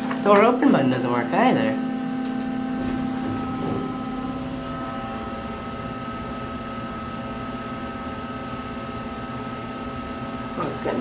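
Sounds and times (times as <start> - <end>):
elevator hum: 0.0 - 11.0
high steady whine: 1.2 - 11.0.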